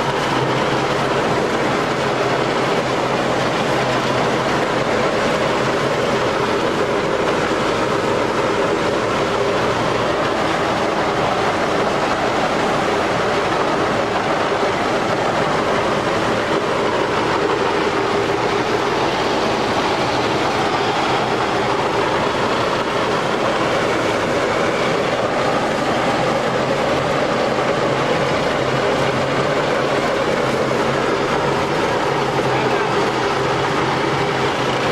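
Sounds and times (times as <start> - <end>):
road roller running: 0.0 - 34.9.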